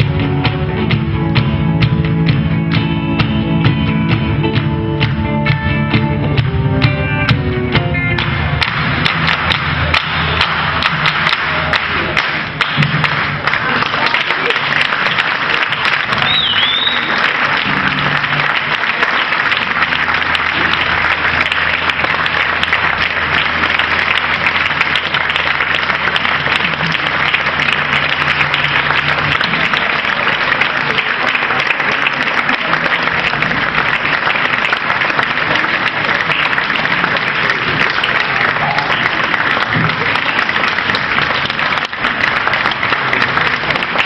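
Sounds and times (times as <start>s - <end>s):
audience applauding: 8.1s - 44.0s.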